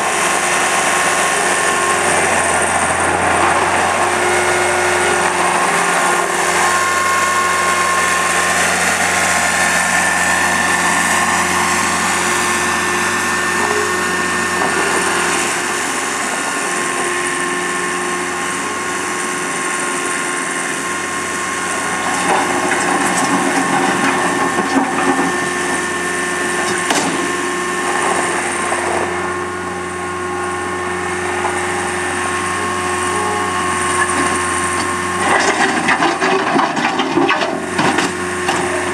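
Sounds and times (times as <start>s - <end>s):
diesel engine running: 0.0s - 38.9s
high whine: 0.0s - 38.9s.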